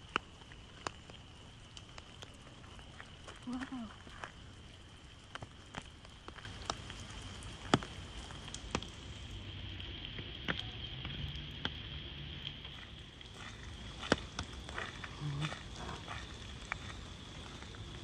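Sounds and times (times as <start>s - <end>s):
light rain hissing: 0.0s - 18.0s.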